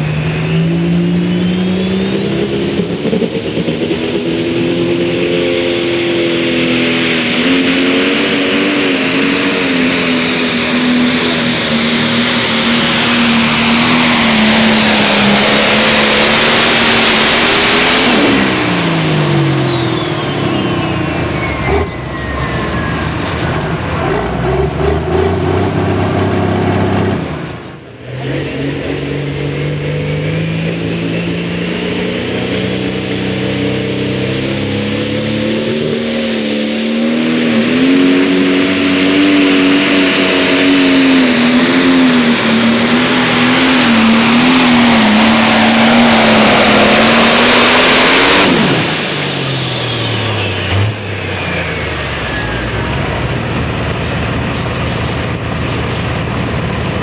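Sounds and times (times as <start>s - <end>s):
diesel engine at full throttle: 0.0s - 57.0s
high turbo whine: 0.0s - 57.0s.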